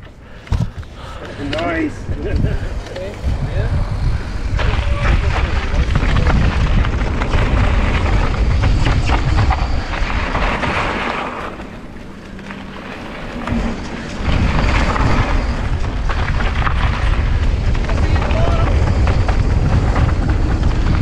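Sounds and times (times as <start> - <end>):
bike clicks and rattles: 0.0 - 21.0
wind buffeting microphone: 0.0 - 21.0
tyres rolling on gravel: 0.5 - 21.0.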